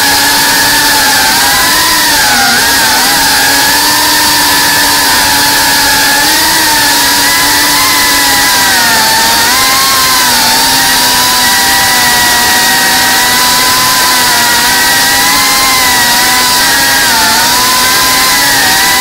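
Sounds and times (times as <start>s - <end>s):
quadcopter motors buzzing: 0.0s - 19.0s.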